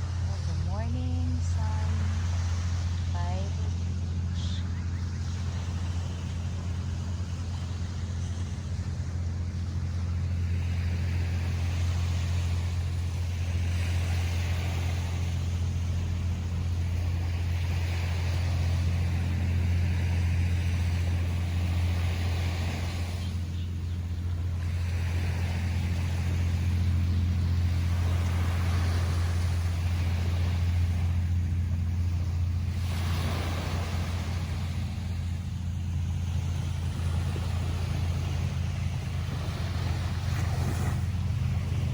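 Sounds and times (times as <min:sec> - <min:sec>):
ocean waves breaking on beach: 0:00.0 - 0:41.9
steady low rumble: 0:00.0 - 0:41.9.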